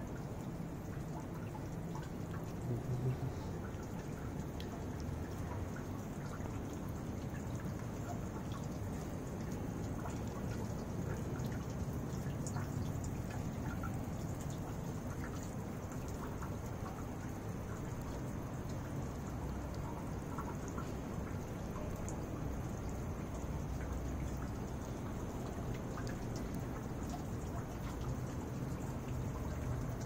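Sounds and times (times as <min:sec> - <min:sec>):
fountain water trickling into pond: 0:00.0 - 0:30.0.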